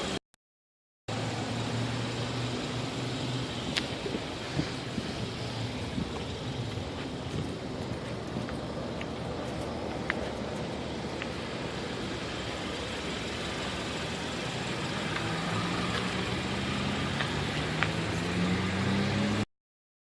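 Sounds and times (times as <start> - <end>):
car engine droning: 1.1 - 19.5.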